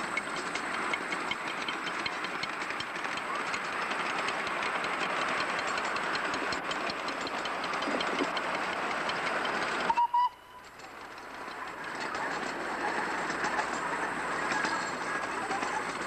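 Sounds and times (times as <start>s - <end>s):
faint rail clicks: 0.0s - 16.0s
miniature train rumbling on track: 0.0s - 16.0s.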